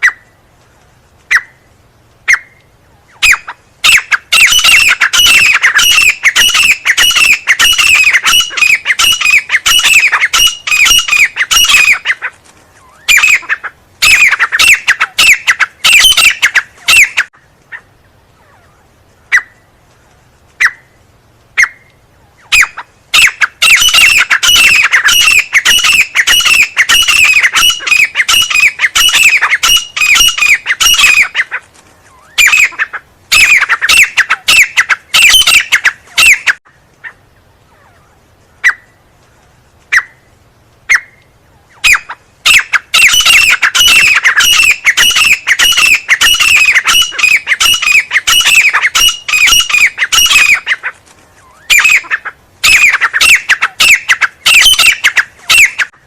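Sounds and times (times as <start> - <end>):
bird sharp calls: 0.0 - 0.4, 1.3 - 19.7, 20.6 - 39.0, 40.9 - 56.0.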